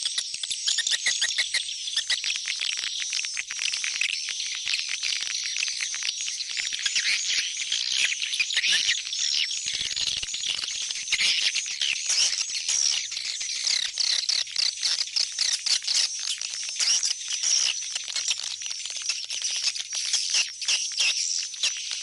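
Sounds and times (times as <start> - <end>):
birds twittering rapid high chirps: 0.5 - 18.4.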